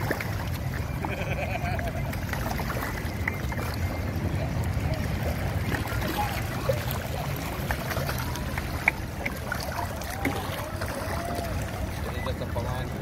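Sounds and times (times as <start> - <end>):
small water splashes: 0.0 - 13.0
water lapping and sloshing: 0.0 - 13.0.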